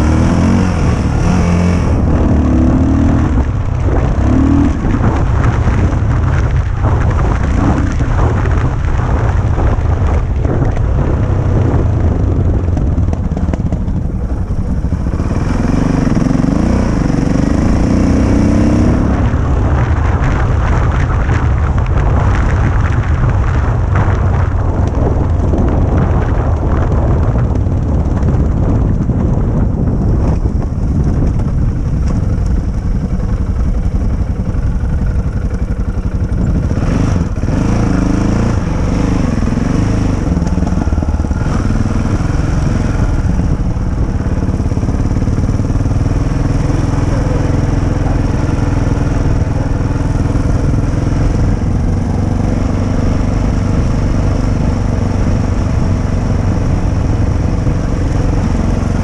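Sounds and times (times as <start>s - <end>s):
heavy low rumble: 0.0s - 59.0s
motorcycle engine running: 0.0s - 59.0s.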